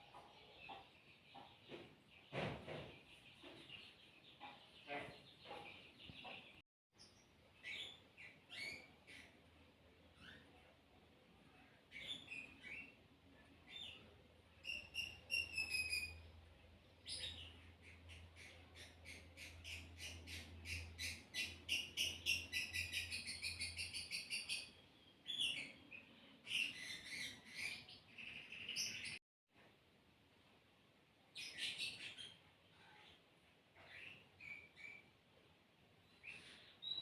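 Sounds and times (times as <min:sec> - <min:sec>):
small birds chirping: 0:00.0 - 0:29.8, 0:30.5 - 0:37.0.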